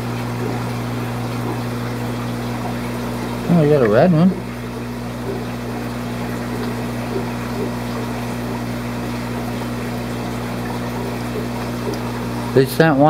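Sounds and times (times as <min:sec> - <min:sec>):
aquarium pumps humming: 0:00.0 - 0:13.0
moving water rushing: 0:00.0 - 0:13.0.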